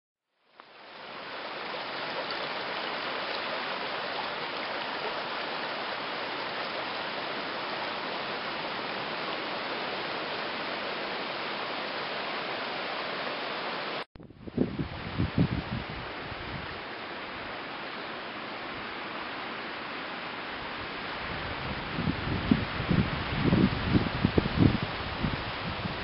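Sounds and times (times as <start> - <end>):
flowing water rushing: 0.5 - 26.0.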